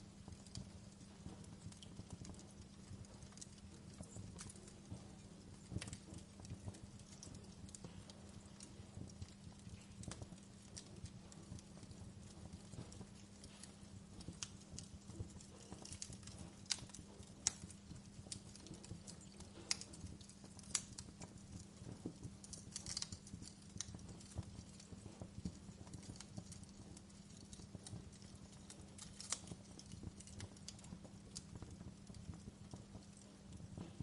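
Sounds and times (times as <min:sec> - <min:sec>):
low steady hum: 0:00.0 - 0:34.0
wood fire crackling: 0:00.0 - 0:34.0.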